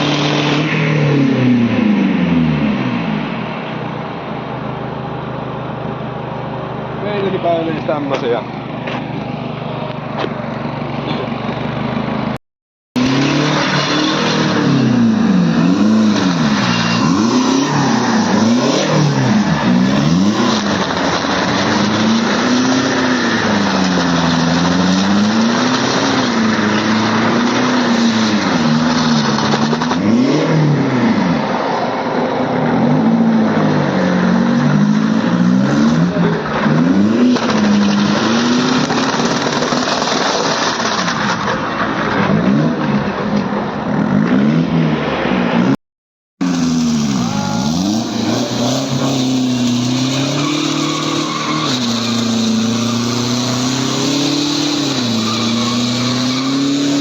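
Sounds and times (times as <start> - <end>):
diesel engine at high revs: 0.0 - 45.8, 46.4 - 57.0.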